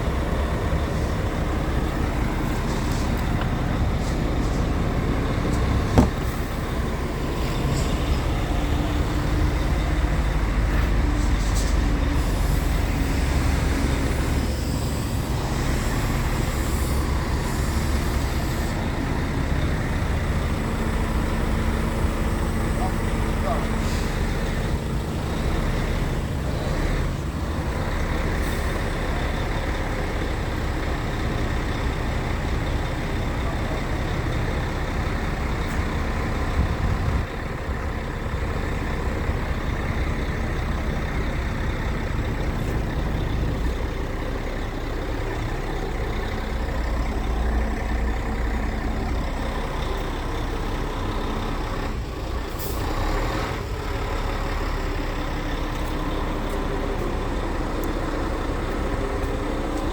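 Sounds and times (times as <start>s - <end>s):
diesel truck engine rumbling: 0.0s - 59.9s.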